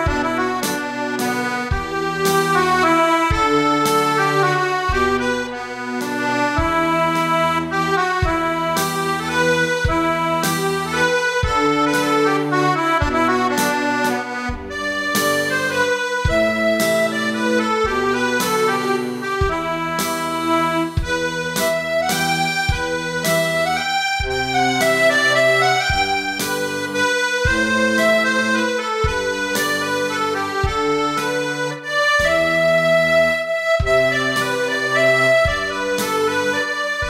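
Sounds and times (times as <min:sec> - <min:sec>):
accordion playing folk tune: 0:00.0 - 0:37.0.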